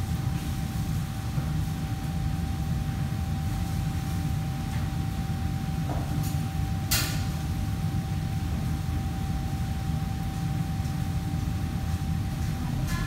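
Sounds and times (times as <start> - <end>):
kitchen fans rumbling: 0.0 - 13.0.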